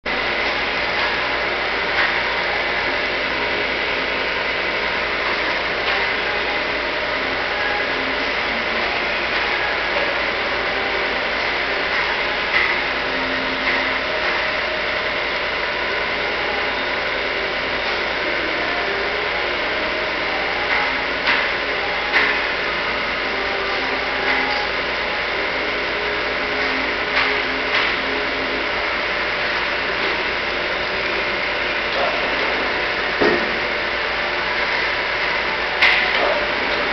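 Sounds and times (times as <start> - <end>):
milling machine running: 0.1 - 36.9.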